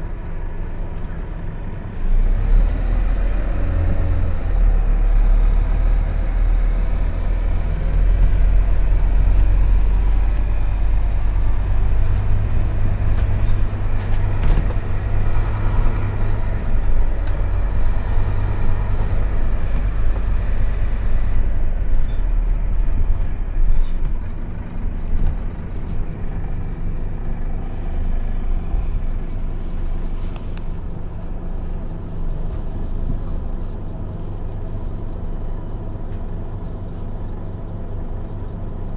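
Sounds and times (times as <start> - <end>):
bus engine and road noise: 0.0 - 38.9.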